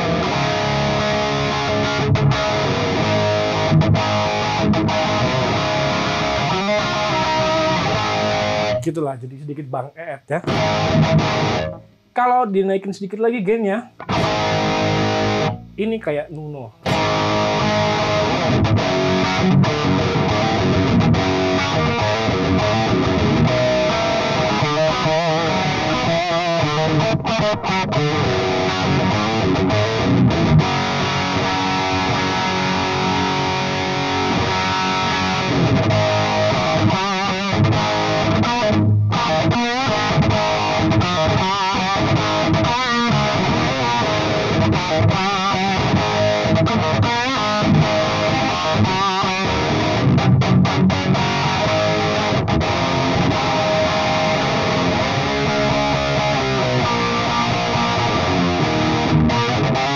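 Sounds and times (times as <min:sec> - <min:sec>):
distorted electric guitar: 0:00.0 - 0:08.9, 0:09.9 - 0:12.2, 0:13.8 - 0:59.9.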